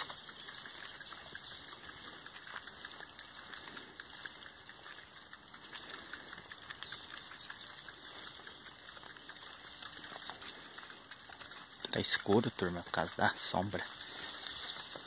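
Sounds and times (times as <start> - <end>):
bicycle tyres crunching on dirt: 0.0 - 15.0
rapid small clicks: 0.0 - 15.0.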